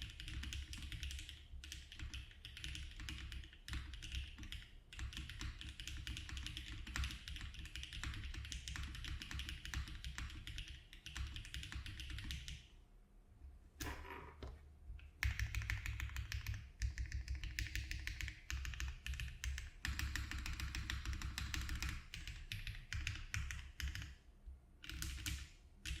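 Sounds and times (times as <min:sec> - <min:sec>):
typing on mechanical keyboard: 0:00.0 - 0:12.6, 0:15.2 - 0:24.2, 0:24.8 - 0:26.0.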